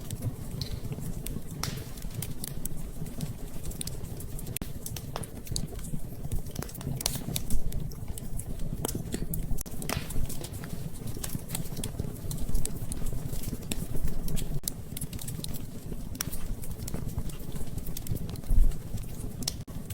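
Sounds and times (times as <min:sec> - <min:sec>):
low rumble of flames: 0:00.0 - 0:19.9
wood fire crackling: 0:00.0 - 0:19.9.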